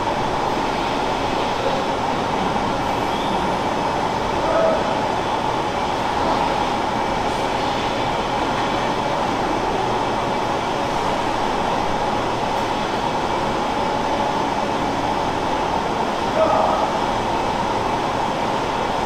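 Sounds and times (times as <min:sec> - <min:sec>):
milking machinery hiss and hum: 0:00.0 - 0:19.0.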